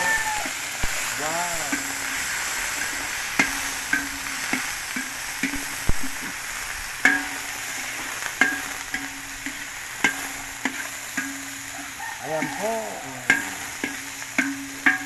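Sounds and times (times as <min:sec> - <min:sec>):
food sizzling in hot oil: 0:00.0 - 0:15.0
metal spatula knocking wok: 0:00.0 - 0:15.0.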